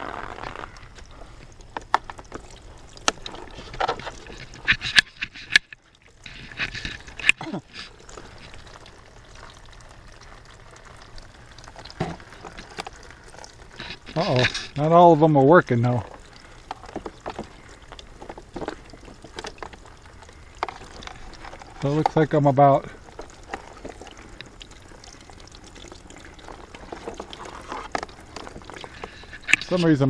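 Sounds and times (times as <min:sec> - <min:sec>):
plastic pots clicking and knocking: 0:00.0 - 0:30.0
water trickling into pots: 0:00.0 - 0:30.0.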